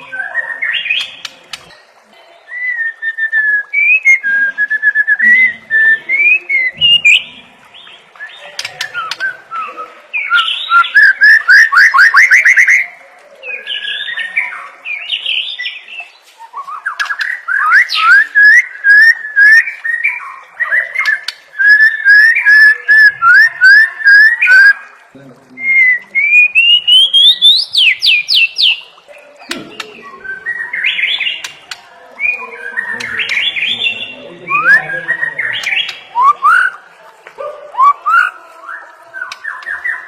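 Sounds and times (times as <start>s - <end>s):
bird singing whistled phrases: 2.5s - 24.9s, 25.5s - 31.5s, 32.2s - 36.8s.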